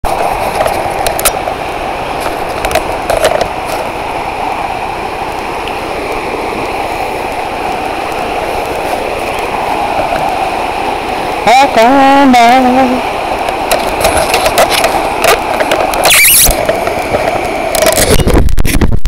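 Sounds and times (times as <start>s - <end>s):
river rushing over rocks: 0.0s - 18.2s.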